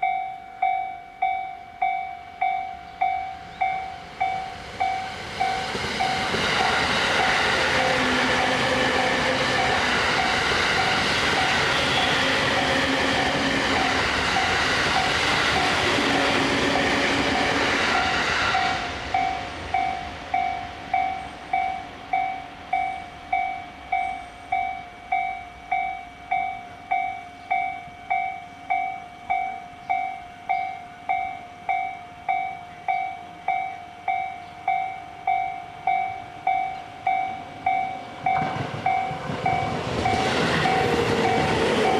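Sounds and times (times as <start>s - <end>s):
crossing warning bell ringing: 0.0s - 41.9s
train rumbling over crossing: 0.0s - 41.9s.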